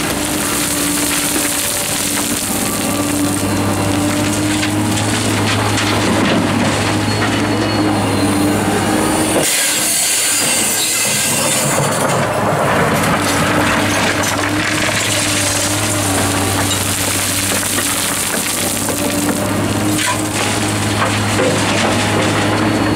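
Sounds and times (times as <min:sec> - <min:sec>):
gravel spilling into truck bed: 0:00.0 - 0:07.0, 0:09.4 - 0:22.6
excavator diesel engine humming: 0:00.0 - 0:22.9.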